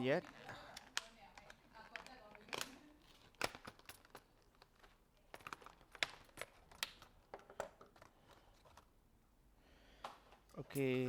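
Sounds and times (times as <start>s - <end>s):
packaging clicks and crinkles: 0.1s - 9.0s.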